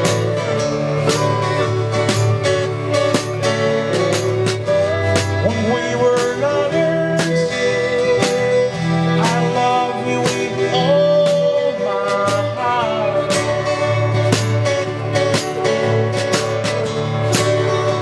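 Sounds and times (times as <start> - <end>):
band playing a song: 0.0 - 18.0.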